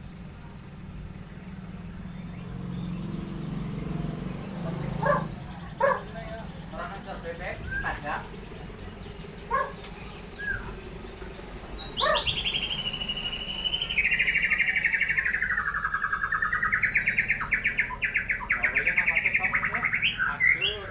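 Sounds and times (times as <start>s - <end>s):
bird singing rattling trill: 0.0s - 20.9s.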